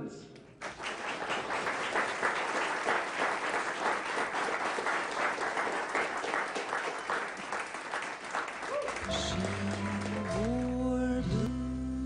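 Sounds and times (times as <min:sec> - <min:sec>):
audience applauding: 0:00.6 - 0:10.9.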